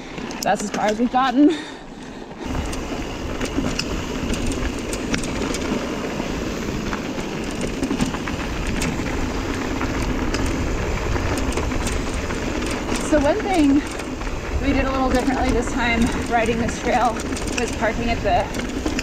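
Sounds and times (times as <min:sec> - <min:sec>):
bike clicks and rattles: 0:00.0 - 0:19.0
bike tyres rumbling on dirt: 0:00.0 - 0:19.0.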